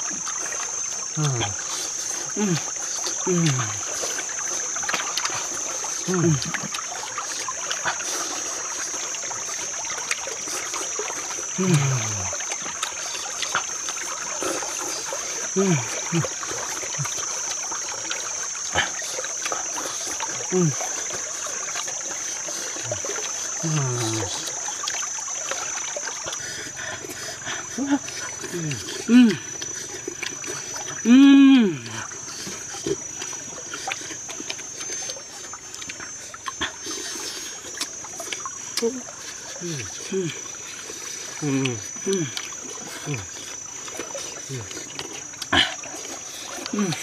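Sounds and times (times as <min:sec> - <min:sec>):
high insect drone: 0:00.0 - 0:47.0
watery hiss: 0:00.0 - 0:47.0.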